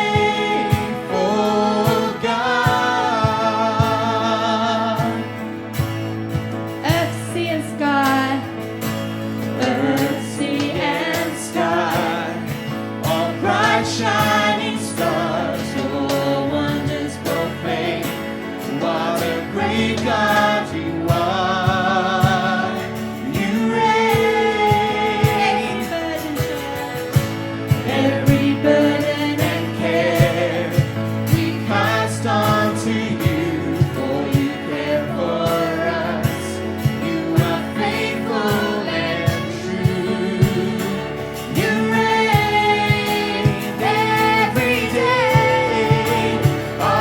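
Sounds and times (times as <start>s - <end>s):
person singing with vibrato: 0.0s - 5.8s, 6.8s - 47.0s
instrumental accompaniment: 0.0s - 47.0s.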